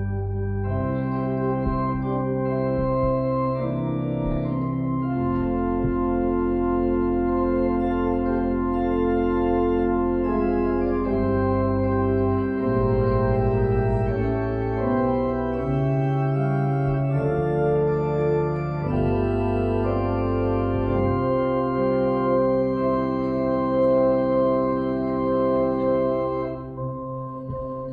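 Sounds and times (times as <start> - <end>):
organ chords over bass line: 0.0 - 27.9.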